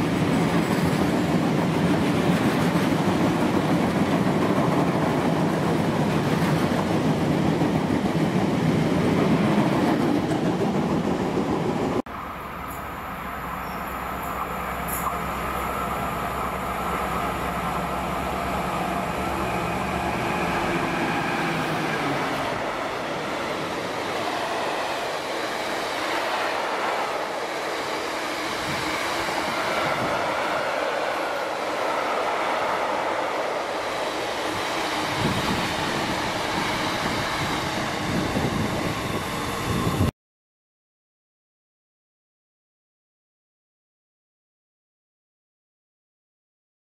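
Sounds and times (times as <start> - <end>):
diesel locomotive engine: 0.0 - 40.1
train wheels on rails: 0.0 - 40.1.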